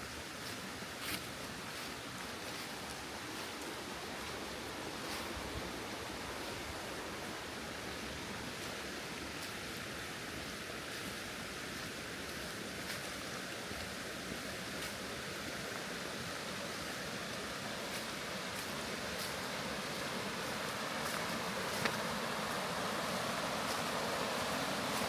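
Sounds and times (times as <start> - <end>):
faint footsteps on path: 0.0 - 25.0
rushing outdoor noise: 0.0 - 25.0.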